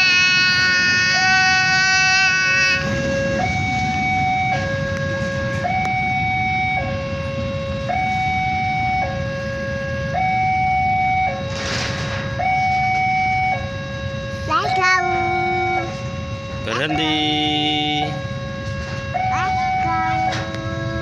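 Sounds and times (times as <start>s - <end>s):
two-tone siren: 0.0s - 21.0s.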